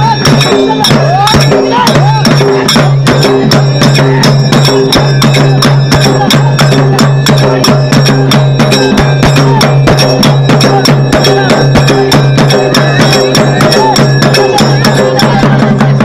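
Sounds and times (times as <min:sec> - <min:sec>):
barrel drums beaten with sticks: 0:00.0 - 0:16.0
cymbals clashing: 0:00.0 - 0:16.0.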